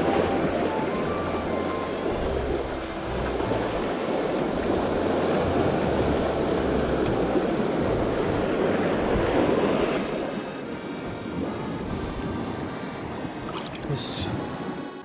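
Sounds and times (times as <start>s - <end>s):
sea waves rushing among concrete: 0.0s - 15.0s.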